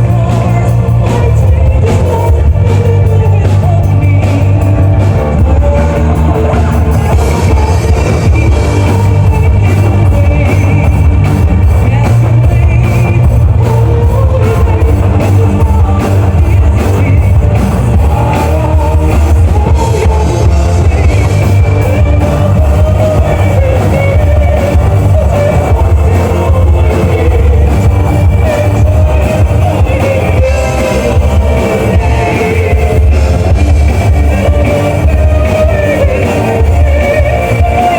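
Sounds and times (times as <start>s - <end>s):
drum kit: 0.0s - 37.9s
electric guitar: 0.0s - 37.9s
heavy bass line: 0.0s - 37.9s
person singing: 0.0s - 37.9s.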